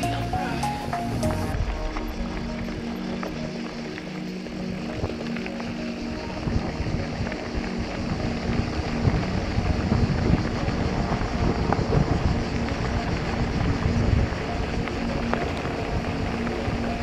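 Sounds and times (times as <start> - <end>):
bike rolling over gravel: 0.0 - 17.0
wind buffeting microphone: 1.5 - 17.0.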